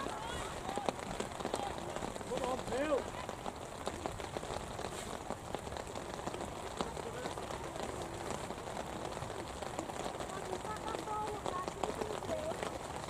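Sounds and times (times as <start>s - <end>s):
raindrops ticking: 0.0s - 13.0s
steady rain: 0.0s - 13.0s.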